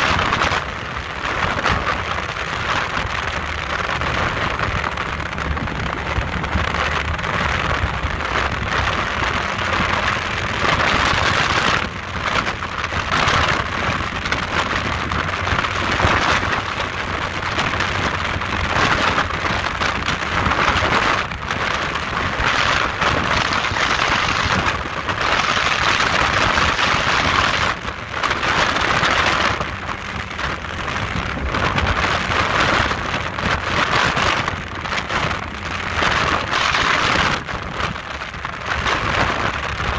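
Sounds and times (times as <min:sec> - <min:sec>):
rush of wind and water: 0:00.0 - 0:39.9.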